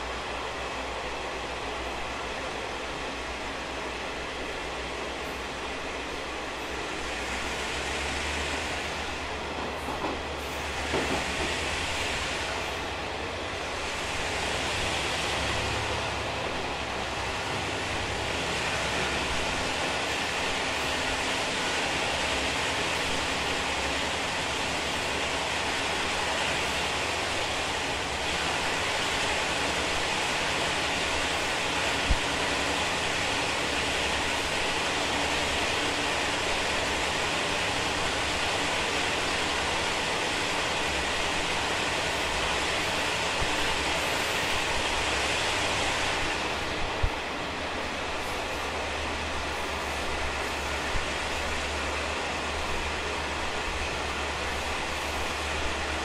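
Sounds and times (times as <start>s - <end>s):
train rushing roar in tunnel: 0.0s - 56.0s.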